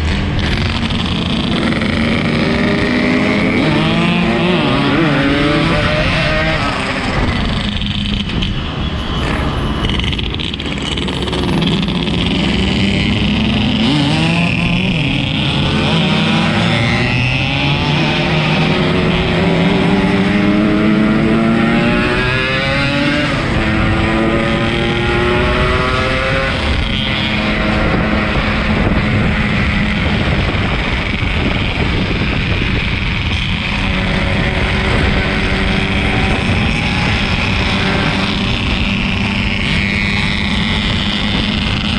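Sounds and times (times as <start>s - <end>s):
motorcycle engine revving: 0.0s - 41.9s
wind and road noise: 0.0s - 41.9s.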